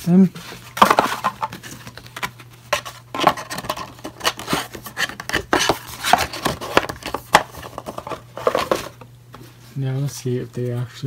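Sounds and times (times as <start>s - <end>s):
paper and cardboard rustling: 0.3s - 10.0s.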